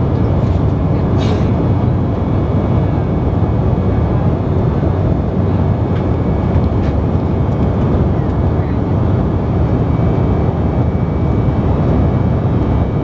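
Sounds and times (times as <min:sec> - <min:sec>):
airliner engine drone: 0:00.0 - 0:13.0.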